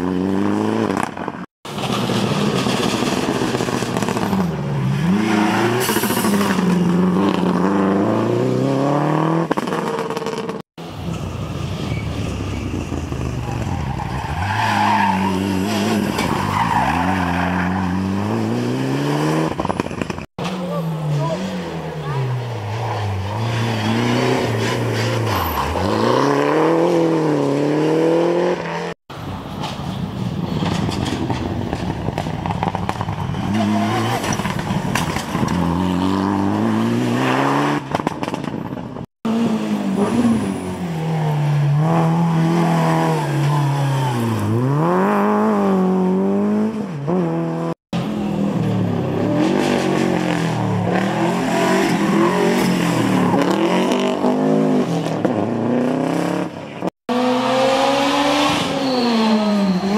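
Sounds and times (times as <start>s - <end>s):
rally car engines revving: 0.0s - 10.6s, 11.9s - 29.0s, 31.0s - 59.9s.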